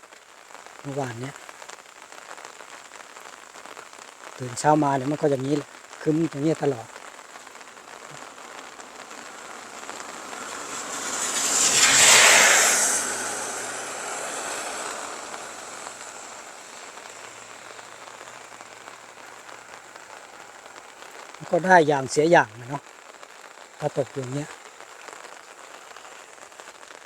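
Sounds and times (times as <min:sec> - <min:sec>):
light rain falling: 0:00.0 - 0:27.0.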